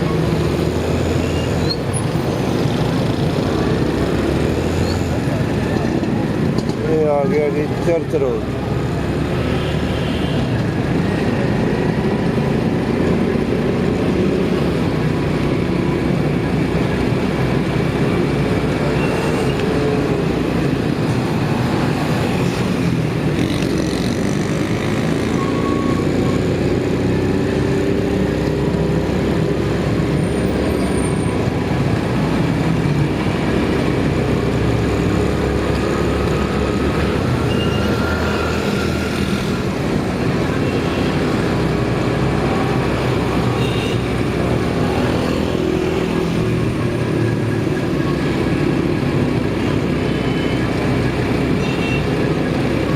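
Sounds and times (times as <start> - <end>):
street traffic rumble: 0.0 - 52.9.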